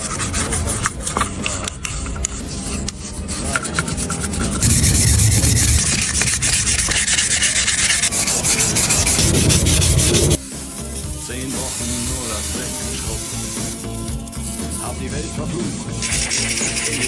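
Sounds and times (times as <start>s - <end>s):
abrasive sanding: 0.0s - 17.0s.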